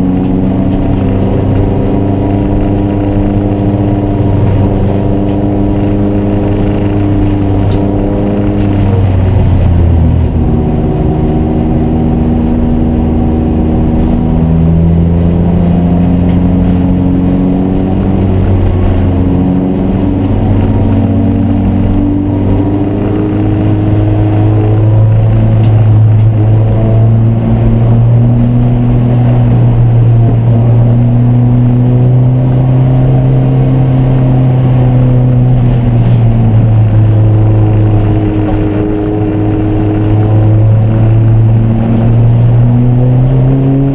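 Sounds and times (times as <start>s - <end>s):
racing car engines running: 0.0s - 43.9s.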